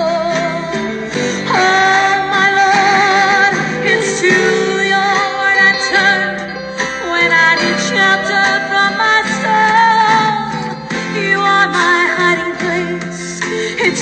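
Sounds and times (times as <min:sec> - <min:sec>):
instrumental accompaniment: 0:00.0 - 0:14.0
woman singing with vibrato: 0:00.0 - 0:14.0.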